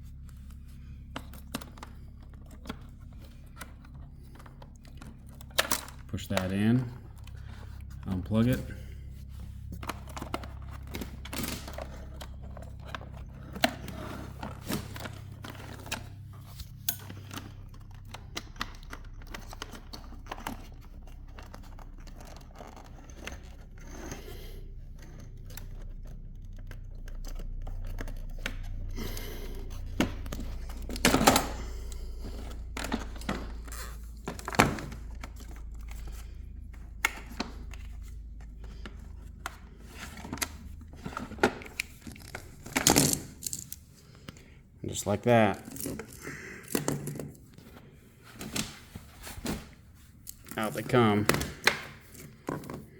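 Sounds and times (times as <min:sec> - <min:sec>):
steady low hum: 0:00.0 - 0:52.9
plastic clicks and rattles: 0:00.2 - 0:08.0, 0:08.7 - 0:44.5, 0:51.2 - 0:52.9.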